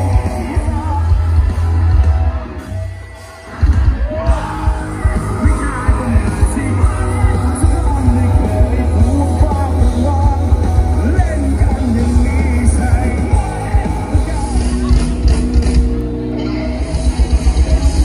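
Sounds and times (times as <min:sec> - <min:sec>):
loud music with singing: 0:00.0 - 0:18.0.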